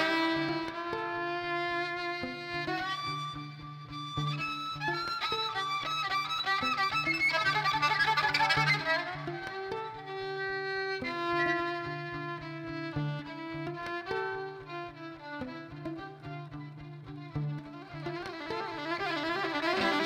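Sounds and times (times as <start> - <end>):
bowed string instrument: 0.0 - 20.0.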